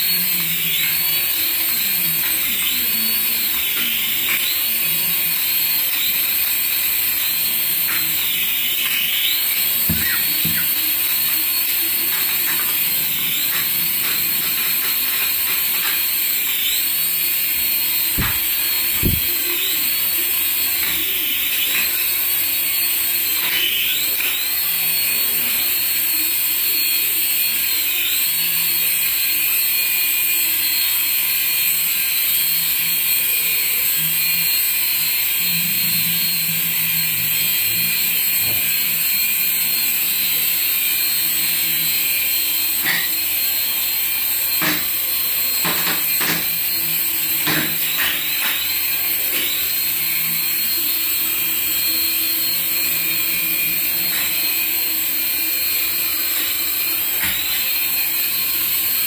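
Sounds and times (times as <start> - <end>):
toy helicopter motors whining: 0.0 - 59.0.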